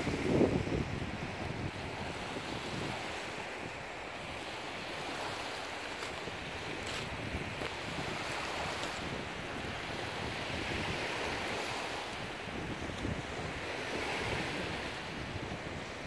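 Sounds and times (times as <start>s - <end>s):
waves lapping on pebbles: 0.0s - 16.0s
wind on microphone: 0.0s - 16.0s.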